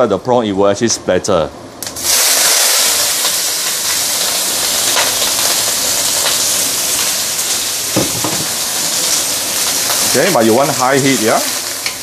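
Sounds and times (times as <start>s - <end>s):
oil crackling: 1.8s - 12.0s
prawns sizzling in hot oil: 1.8s - 12.0s.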